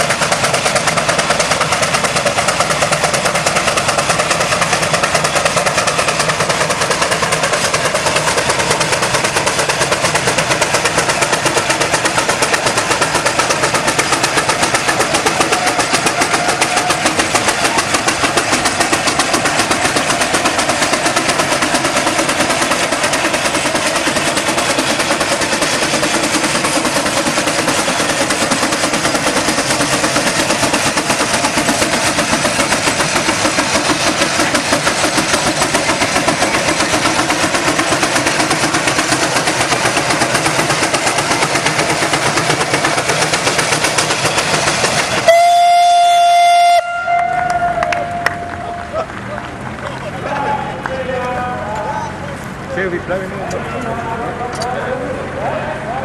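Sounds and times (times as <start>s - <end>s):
steam hiss: 0.0s - 46.4s
steam engine exhaust beats: 0.0s - 56.0s.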